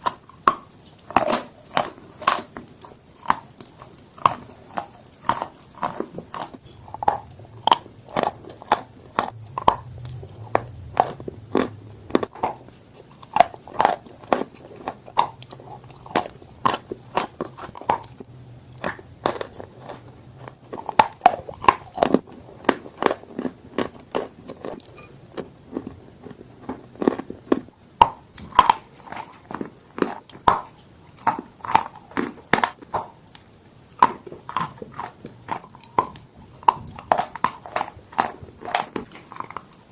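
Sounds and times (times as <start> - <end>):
chalk crunching being chewed: 0.0 - 39.9.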